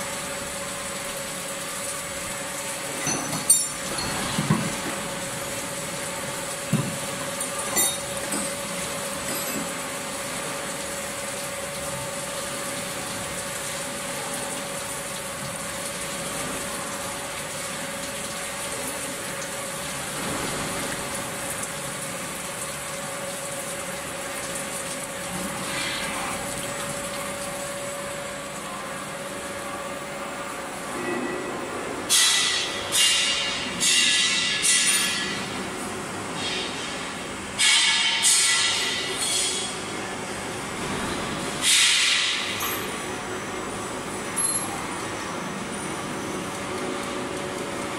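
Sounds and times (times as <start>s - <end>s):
coolant spraying and splashing: 0.0s - 30.7s, 32.1s - 47.9s.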